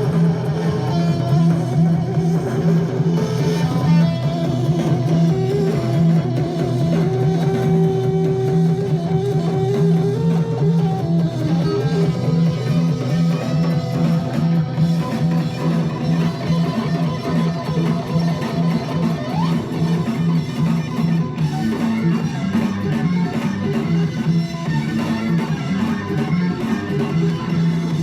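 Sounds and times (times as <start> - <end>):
guitar tune from vinyl record: 0.0 - 28.0
pulsing bass line: 0.0 - 28.0.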